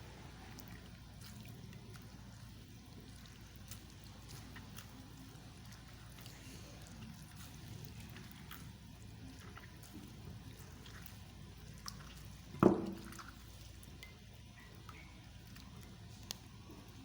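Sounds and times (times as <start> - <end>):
hands squeezing wet leaves: 0.0 - 17.0.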